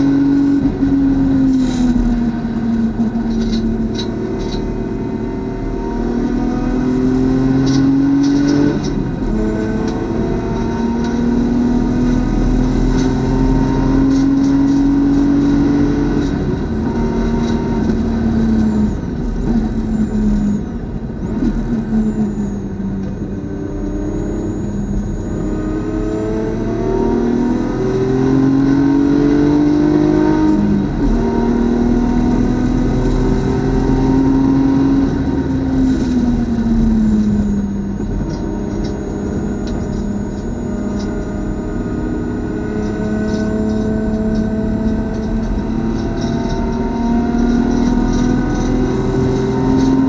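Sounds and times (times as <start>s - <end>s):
race car engine revving: 0.0s - 50.0s.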